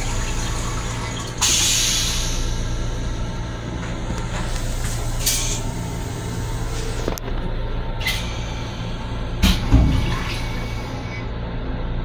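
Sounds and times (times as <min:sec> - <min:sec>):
railcar low hum: 0:00.0 - 0:12.0.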